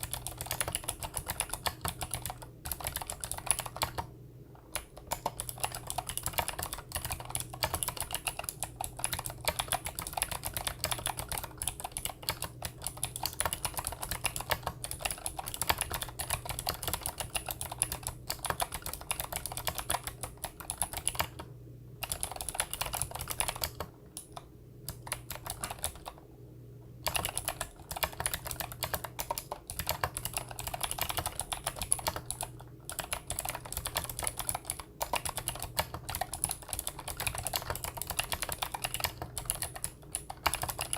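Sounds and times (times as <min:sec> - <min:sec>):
clicky mechanical keyboard typing: 0:00.0 - 0:26.3, 0:27.0 - 0:40.9.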